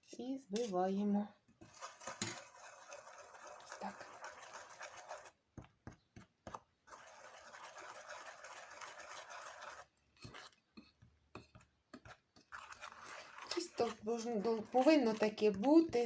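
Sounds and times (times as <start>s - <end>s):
whisking batter in a bowl: 1.4s - 16.0s
whisk clicking against bowl: 1.6s - 16.0s.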